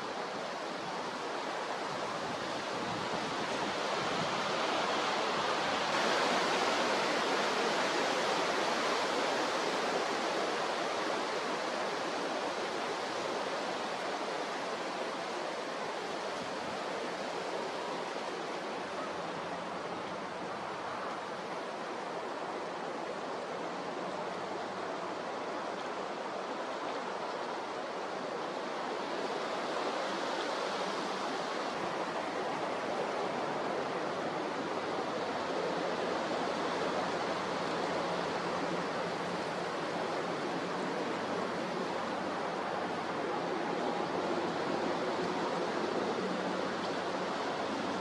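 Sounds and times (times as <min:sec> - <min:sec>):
rough sea: 0:00.0 - 0:48.0
strong wind: 0:00.0 - 0:48.0.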